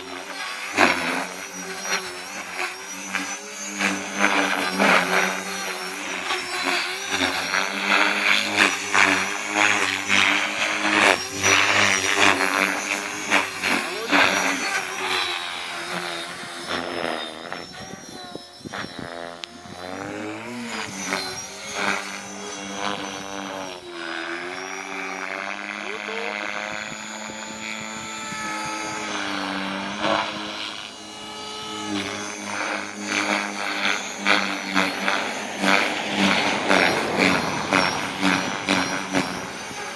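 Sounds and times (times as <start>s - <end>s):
rc helicopter motor whine: 0.0s - 39.9s
rotor blades chopping: 0.0s - 39.9s.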